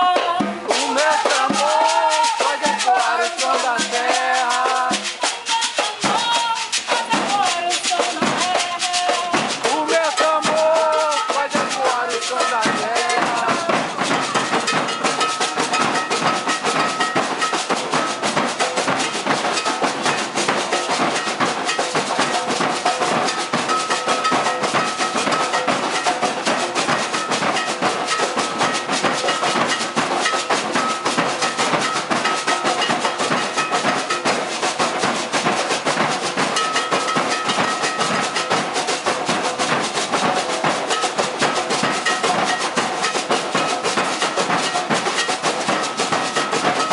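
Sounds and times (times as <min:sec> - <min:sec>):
percussion ensemble drumming: 0:00.0 - 0:46.9.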